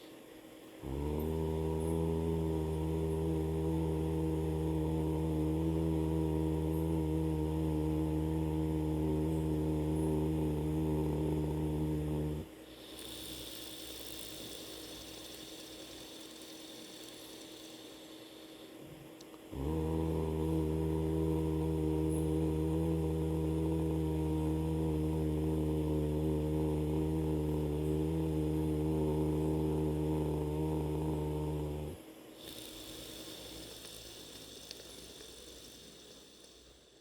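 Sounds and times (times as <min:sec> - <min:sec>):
faint breath hiss: 0:00.0 - 0:37.0
man humming low note: 0:00.8 - 0:15.8, 0:18.8 - 0:34.2.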